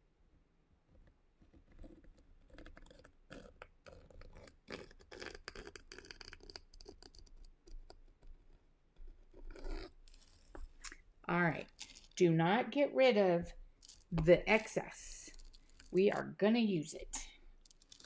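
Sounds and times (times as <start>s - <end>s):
needle tool scratching clay: 0.9s - 12.8s, 13.4s - 16.4s, 17.0s - 18.0s.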